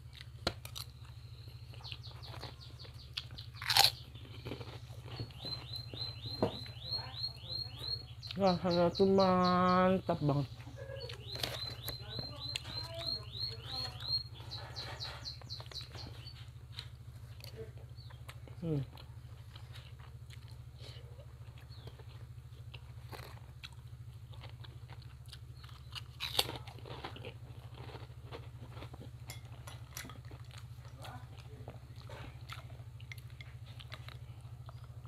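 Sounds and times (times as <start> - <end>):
person chewing and crunching food: 0.0 - 6.9, 10.3 - 35.0.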